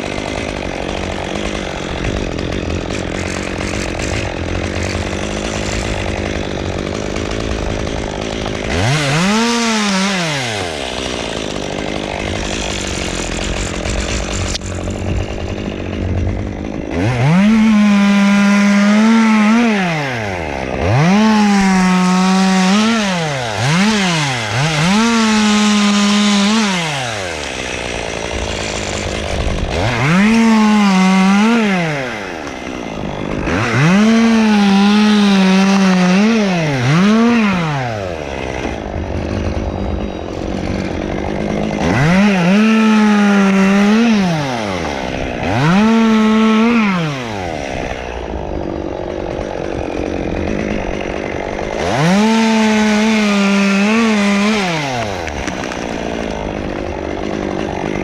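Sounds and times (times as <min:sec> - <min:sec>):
chainsaw revving while cutting wood: 0:00.0 - 0:58.0.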